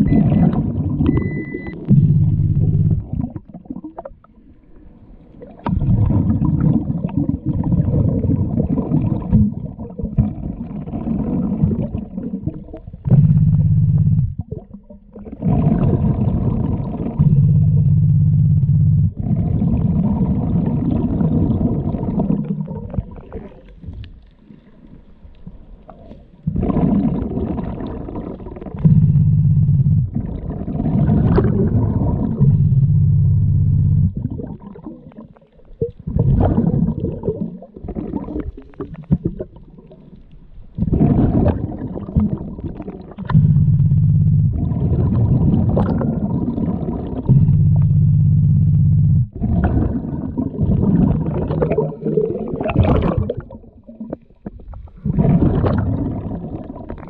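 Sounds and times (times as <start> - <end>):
exhaled bubbles gurgling underwater: 0.0 - 57.0
low steady hum: 0.0 - 57.0.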